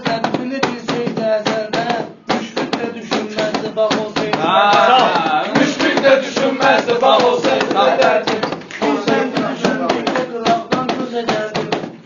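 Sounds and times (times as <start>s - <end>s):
person chanting rhymed verse: 0.0s - 12.0s
steady percussive beat: 0.0s - 12.0s.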